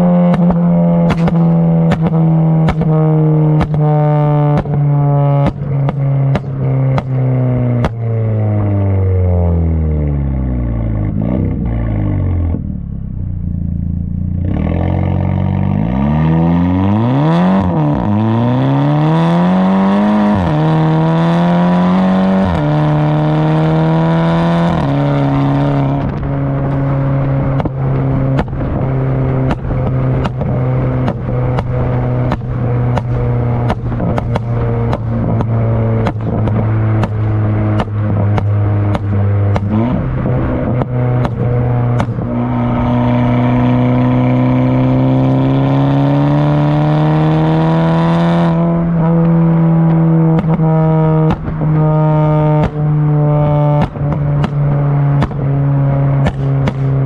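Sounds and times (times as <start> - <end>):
car engine revving and upshifting: 0.0 - 12.9, 14.3 - 57.0.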